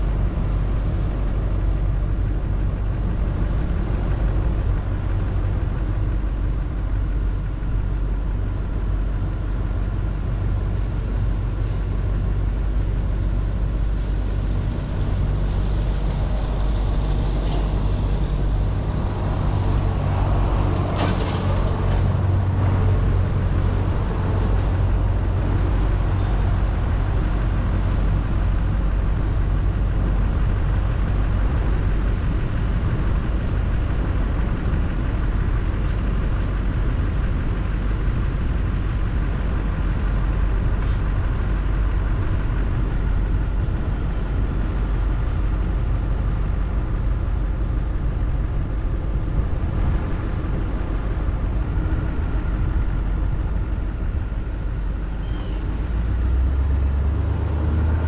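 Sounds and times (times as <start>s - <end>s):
low engine hum: 0.0s - 58.0s
tyre and road noise: 0.0s - 58.0s.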